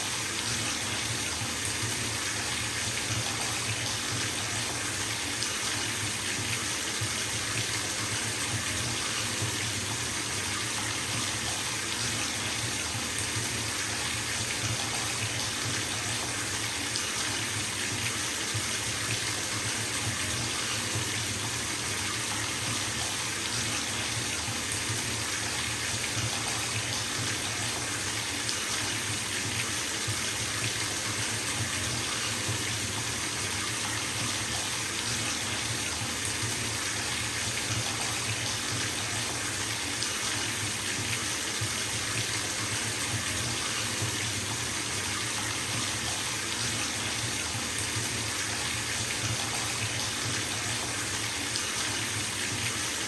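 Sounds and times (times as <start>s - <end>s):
tap running into a bathtub: 0.2s - 53.0s.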